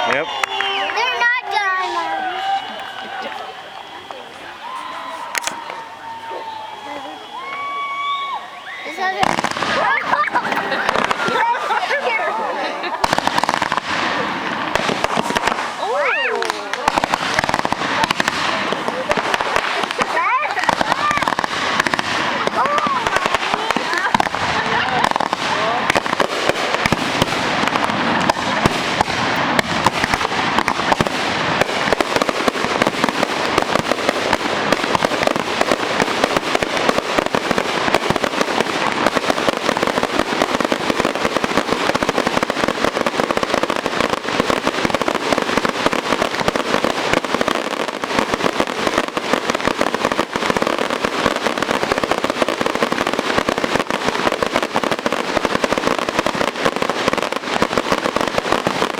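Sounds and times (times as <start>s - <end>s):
fireworks crackling: 0.0s - 58.9s.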